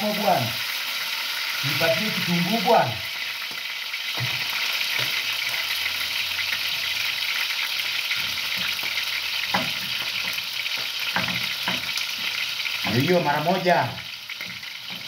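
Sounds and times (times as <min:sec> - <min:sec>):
tomatoes sizzling in oil: 0:00.0 - 0:15.0.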